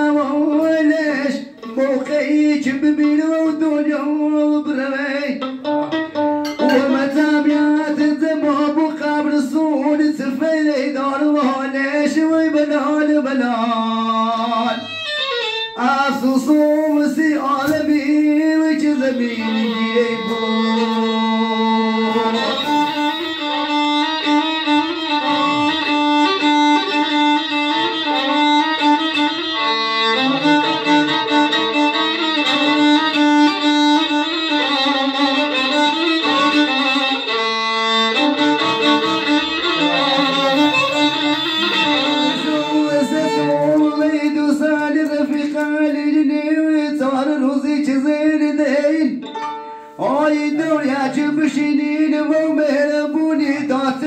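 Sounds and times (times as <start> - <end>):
violin melody with sliding notes: 0.0 - 9.5, 13.6 - 45.9, 49.1 - 51.4.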